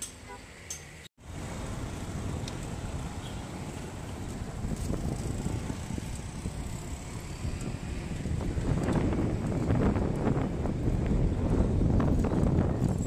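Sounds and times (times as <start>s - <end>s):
road noise from moving vehicle: 0.0s - 13.0s
wind noise: 1.4s - 13.0s.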